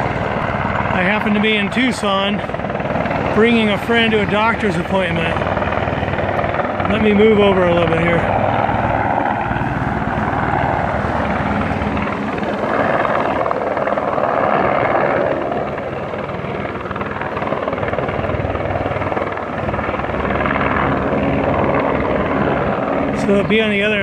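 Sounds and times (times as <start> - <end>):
helicopter rotor chop: 0.0 - 24.0.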